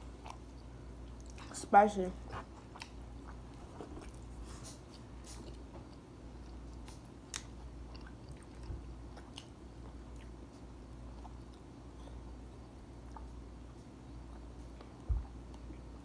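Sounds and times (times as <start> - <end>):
faint chewing: 0.0 - 16.0
low steady hum: 0.0 - 16.0.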